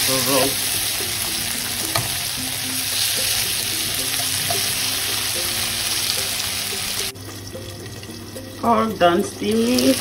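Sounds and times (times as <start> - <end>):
soft background music: 0.0 - 10.0
squash sizzling in oil: 0.0 - 10.0.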